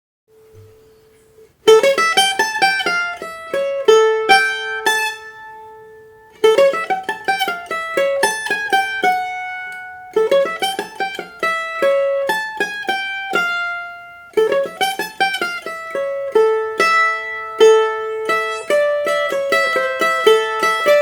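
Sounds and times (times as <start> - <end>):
mandolin plucked melody: 0.3 - 21.0.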